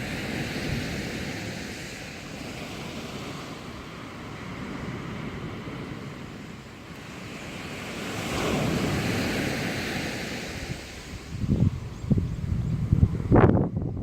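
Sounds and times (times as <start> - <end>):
sea waves washing ashore: 0.0 - 14.0
wind rumble on microphone: 0.0 - 14.0.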